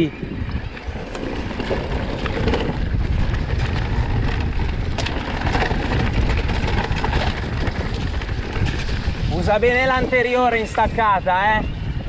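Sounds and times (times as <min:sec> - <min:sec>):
bike rattling and knocking: 0:00.2 - 0:12.0
bike tyres crunching over stones: 0:00.2 - 0:12.0.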